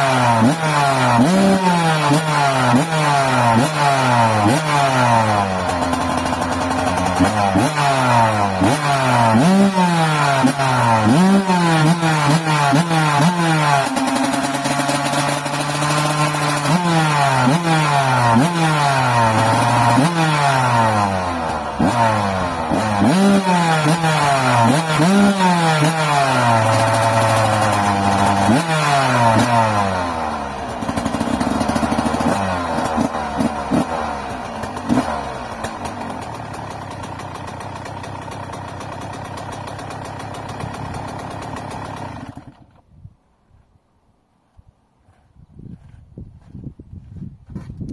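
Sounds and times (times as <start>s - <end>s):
dirt bike engine revving: 0.0s - 42.6s.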